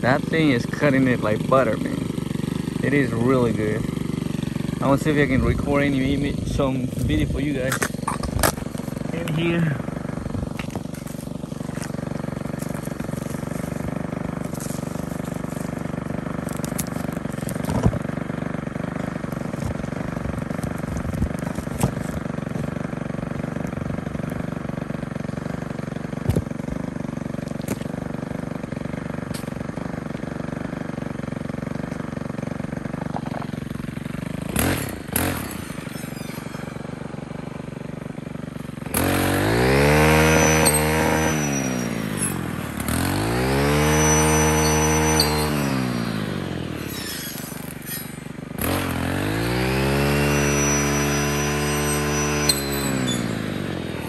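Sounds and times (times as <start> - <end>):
string trimmer engine: 0.0 - 54.0.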